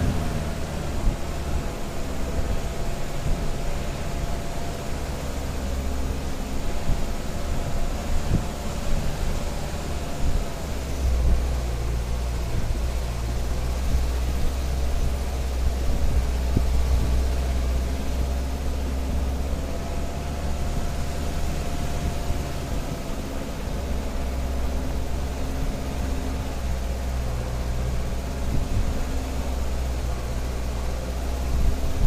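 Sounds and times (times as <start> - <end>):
car engine running under load: 0.0 - 32.0.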